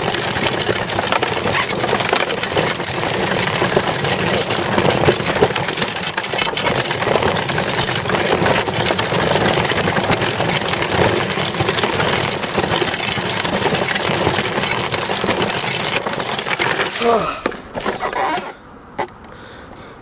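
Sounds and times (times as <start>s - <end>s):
bicycle clicks and rattles: 0.0s - 19.9s
bicycle tyres on rough asphalt: 0.0s - 20.0s.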